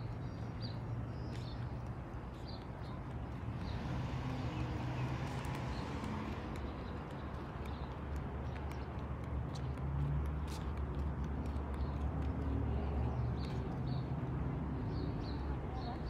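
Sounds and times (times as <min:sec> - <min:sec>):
light ticking footsteps: 0:00.0 - 0:14.4.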